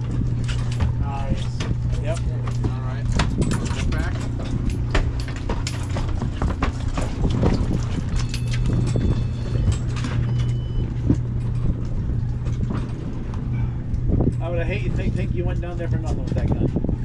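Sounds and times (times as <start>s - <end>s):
boat engine humming: 0.0s - 17.0s
footsteps and gear knocking on deck: 0.0s - 17.0s.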